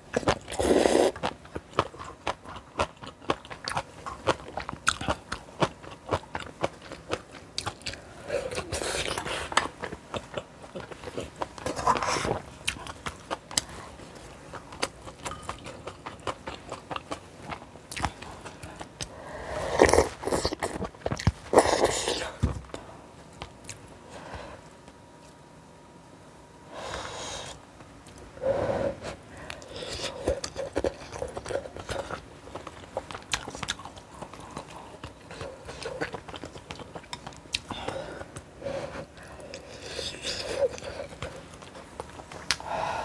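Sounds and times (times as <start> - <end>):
person chewing food: 0.0 - 23.9, 29.0 - 43.0.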